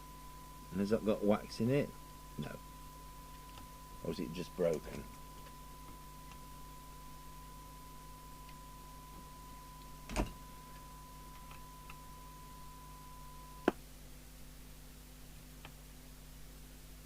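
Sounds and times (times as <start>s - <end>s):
steady test tone: 0.0s - 13.7s.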